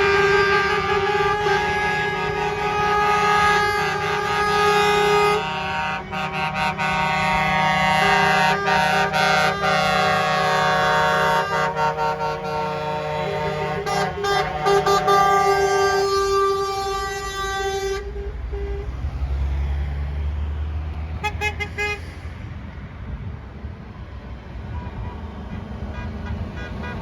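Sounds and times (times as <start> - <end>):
truck air horns blowing: 0.0 - 19.6, 21.2 - 22.4, 25.0 - 27.0.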